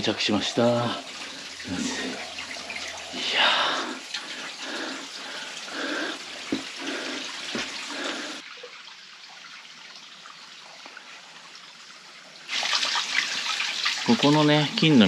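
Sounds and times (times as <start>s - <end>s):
spring water running and splashing: 0.0s - 15.0s.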